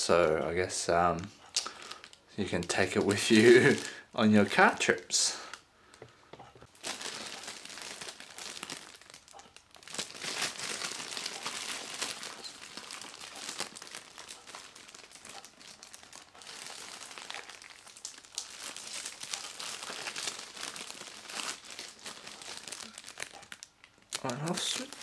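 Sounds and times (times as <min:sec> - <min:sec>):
plastic bag crinkling: 0:01.6 - 0:05.6, 0:06.6 - 0:25.0.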